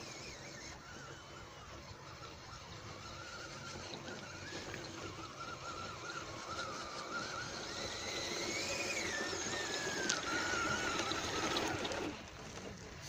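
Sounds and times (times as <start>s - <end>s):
toy car electric motors whining: 0.0s - 13.0s.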